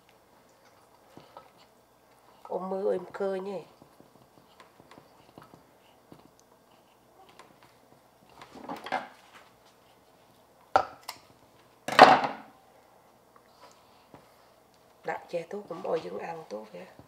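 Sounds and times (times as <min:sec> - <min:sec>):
faint clicks and rustles: 0:00.0 - 0:11.9, 0:13.0 - 0:17.0.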